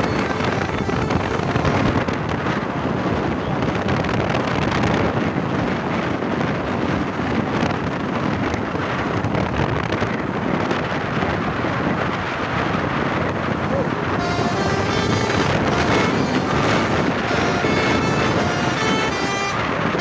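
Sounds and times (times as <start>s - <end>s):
bus engine rumbling: 0.0s - 20.0s
wind buffeting microphone: 0.0s - 20.0s.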